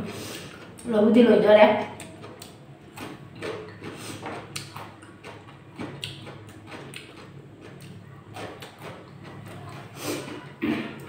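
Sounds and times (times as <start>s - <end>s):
chewing: 0.1s - 0.9s, 1.8s - 11.0s
fingers mixing rice on a plate: 2.0s - 11.0s.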